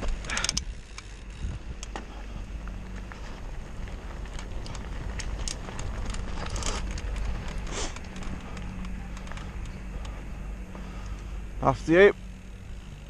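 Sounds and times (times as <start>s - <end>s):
wind rumble on microphone: 0.0s - 11.2s
gravel hissing scrapes: 0.0s - 12.0s
bike clicks and rattles: 0.0s - 13.0s
bike tyres crunching on gravel: 0.0s - 13.0s.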